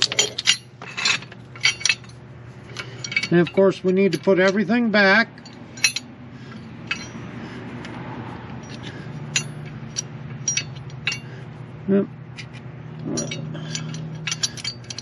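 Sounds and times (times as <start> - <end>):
metal clicks and clinks: 0.0 - 4.7, 5.4 - 7.3, 8.6 - 11.4, 12.4 - 15.0
steady low hum: 0.0 - 15.0.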